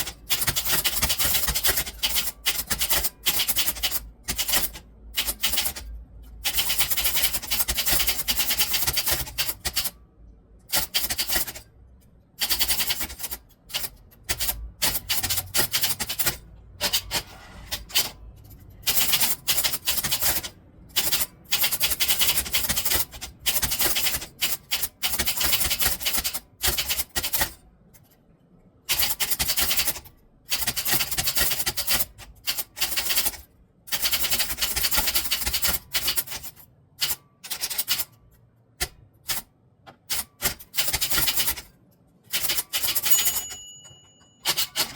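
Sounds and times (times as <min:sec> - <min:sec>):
typewriter keys clacking: 0:00.0 - 0:10.0, 0:10.7 - 0:11.7, 0:12.4 - 0:28.1, 0:28.9 - 0:38.2, 0:38.8 - 0:41.7, 0:42.3 - 0:44.9.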